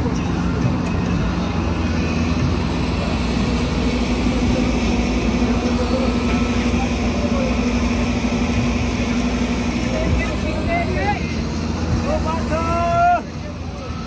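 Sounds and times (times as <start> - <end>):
diesel machinery engine drone: 0.0 - 14.0
faint crowd voices: 0.0 - 14.0.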